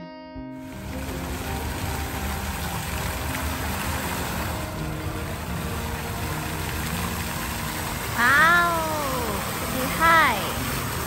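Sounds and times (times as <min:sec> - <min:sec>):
fountain water splashing: 0:00.6 - 0:11.0.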